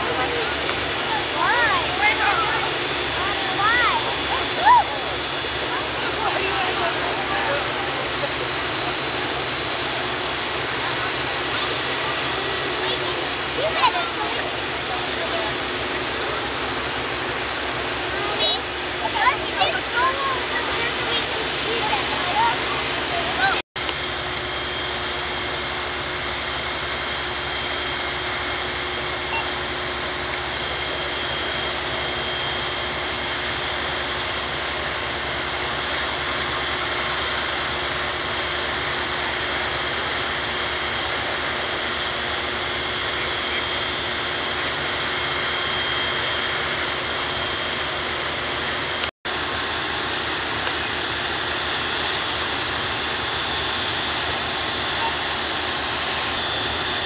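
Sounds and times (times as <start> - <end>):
fire engines and pumps roaring: 0.0 - 57.0.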